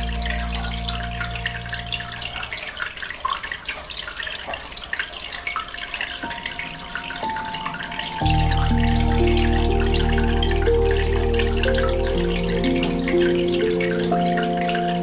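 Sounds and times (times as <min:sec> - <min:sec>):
aquarium water bubbling: 0:00.0 - 0:15.0
soft held music tones: 0:00.0 - 0:15.0.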